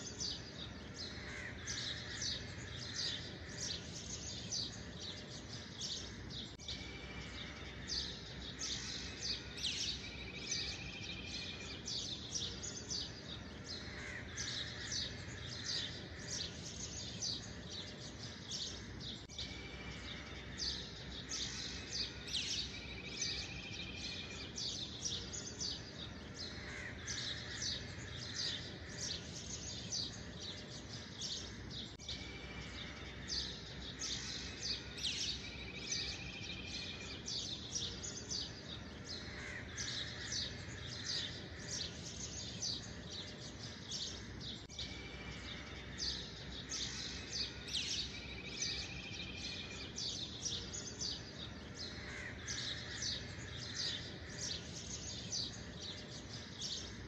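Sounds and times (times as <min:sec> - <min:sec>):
bird chirps: 0:00.0 - 0:57.0
bird trill: 0:00.0 - 0:57.0.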